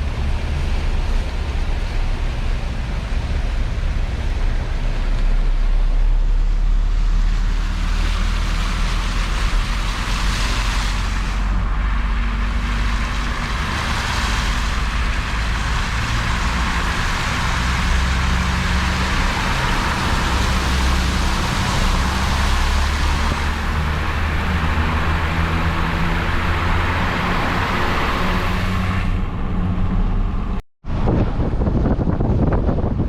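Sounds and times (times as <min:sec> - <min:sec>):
vehicle engine running: 0:00.0 - 0:27.0
steady rushing noise: 0:00.0 - 0:33.0.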